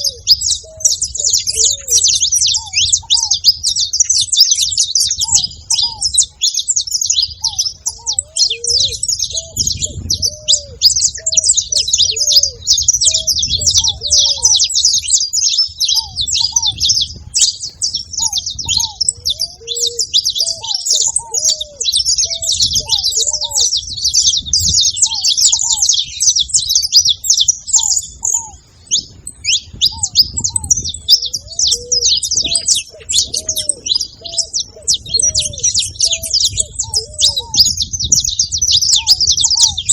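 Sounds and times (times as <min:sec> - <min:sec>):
finches chirping and singing: 0:00.0 - 0:39.9
lower curved bird notes: 0:00.0 - 0:39.9.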